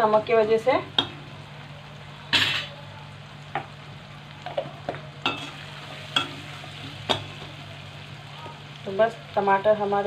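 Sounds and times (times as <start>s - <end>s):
tomatoes frying in oil: 0.0s - 10.0s.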